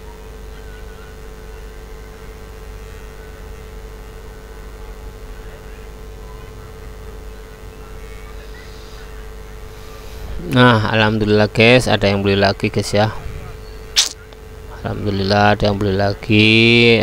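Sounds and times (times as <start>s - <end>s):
droning hum: 0.0s - 17.0s.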